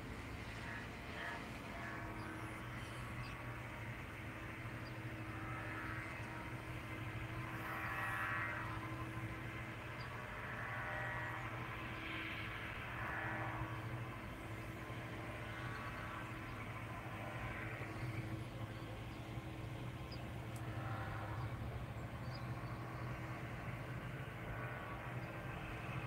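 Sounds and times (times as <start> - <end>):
distant engine drone: 0.0 - 26.0.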